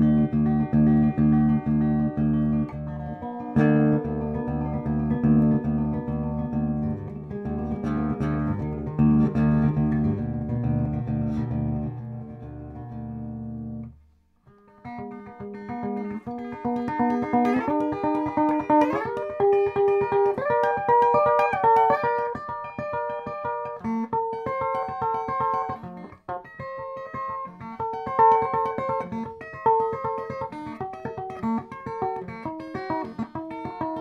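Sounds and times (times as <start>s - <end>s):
clean electric guitar: 0.0s - 34.0s.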